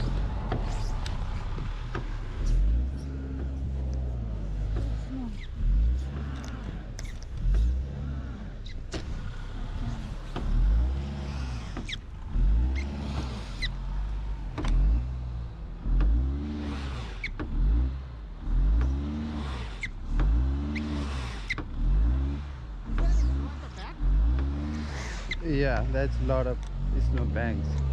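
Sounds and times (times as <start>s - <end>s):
car engine revving: 0.0s - 27.9s.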